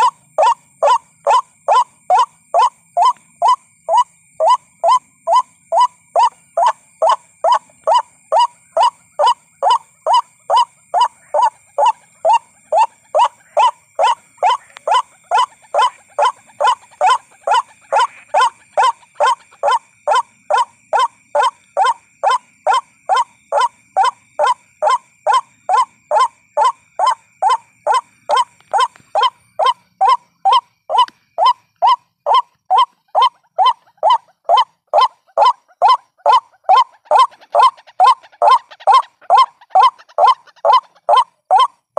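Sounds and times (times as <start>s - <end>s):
waterhen calls: 0.0s - 41.8s.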